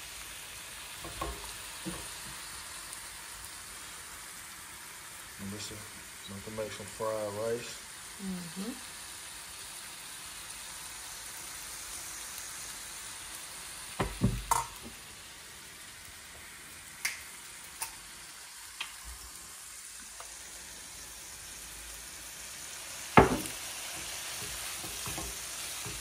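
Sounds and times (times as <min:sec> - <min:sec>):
rice sizzling in a pan: 0:00.0 - 0:26.0.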